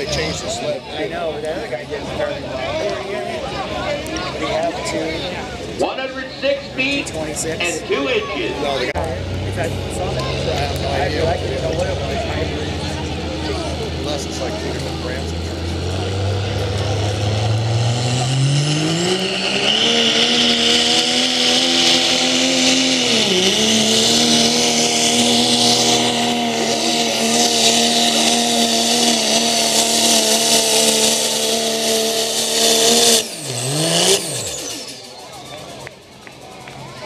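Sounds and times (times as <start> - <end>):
diesel truck engine revving: 0.0 - 36.8.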